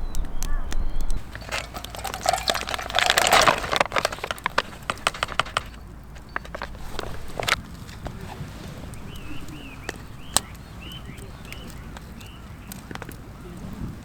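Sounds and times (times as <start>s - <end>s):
firewood cracking and snapping: 1.1s - 8.2s, 8.9s - 13.4s.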